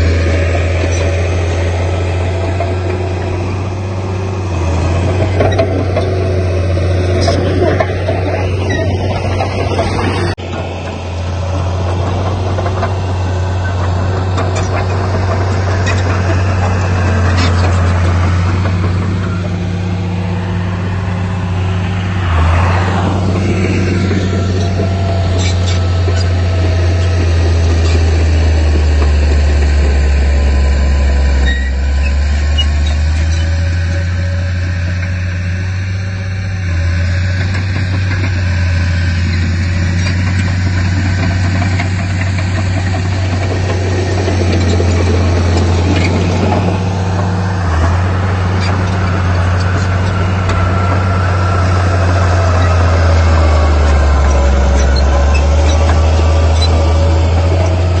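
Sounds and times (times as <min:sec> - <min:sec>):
heavy machinery diesel engine drone: 0:00.0 - 0:58.0.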